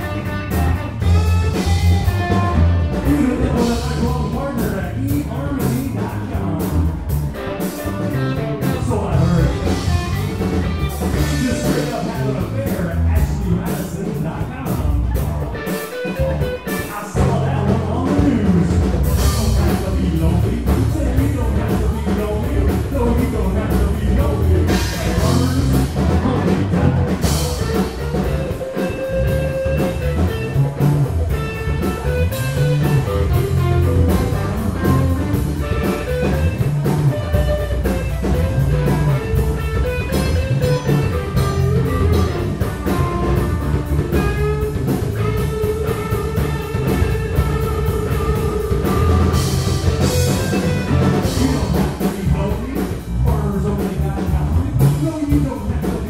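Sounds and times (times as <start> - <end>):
drum kit with cymbal crashes: 0.0 - 56.0
electric bass: 0.0 - 56.0
electric guitar: 0.0 - 56.0.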